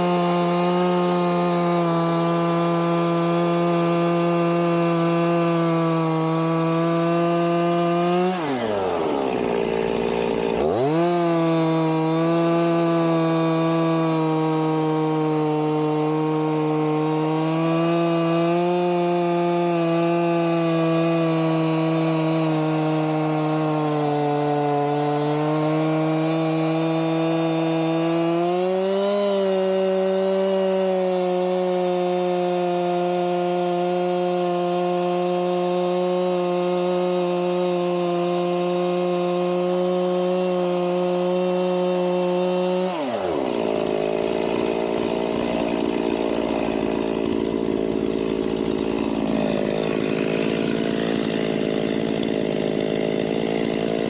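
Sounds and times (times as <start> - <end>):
chainsaw cutting a log: 0.0 - 54.0.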